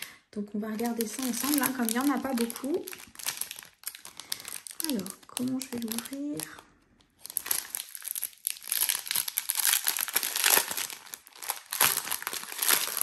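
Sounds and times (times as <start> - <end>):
plastic sachet crinkling: 0.6 - 13.0.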